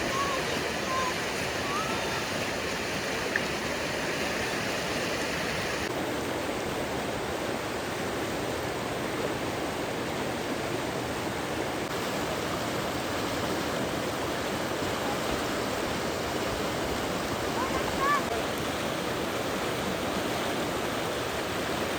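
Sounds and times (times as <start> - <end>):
floodwater rushing: 0.0 - 21.9.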